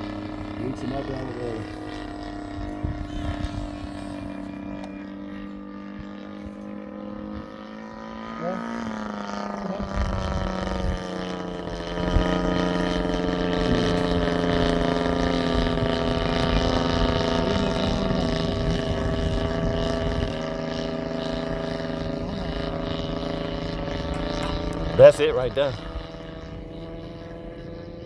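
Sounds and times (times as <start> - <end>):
model airplane engine drone: 0.0 - 28.0.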